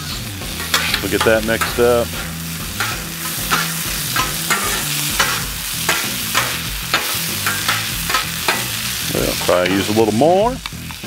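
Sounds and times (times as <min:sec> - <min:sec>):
food sizzling: 0:00.0 - 0:11.0
metal spatulas scraping on griddle: 0:00.1 - 0:10.2.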